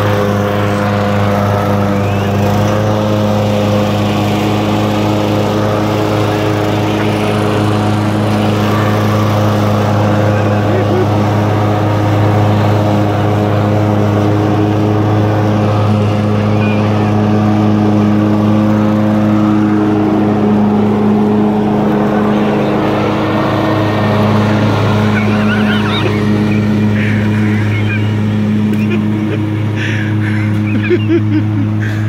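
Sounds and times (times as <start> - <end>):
riding lawn mower engine: 0.0 - 32.0.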